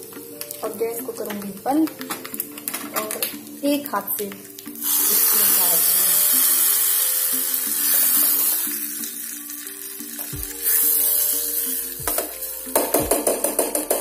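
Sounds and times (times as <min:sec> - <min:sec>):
hot oil sizzling: 0:00.0 - 0:12.8.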